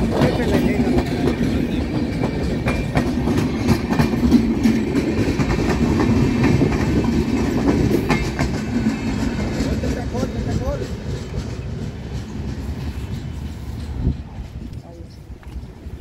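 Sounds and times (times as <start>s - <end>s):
train passing with rumble: 0.0s - 16.0s
wheels clicking over rail joints: 0.0s - 16.0s.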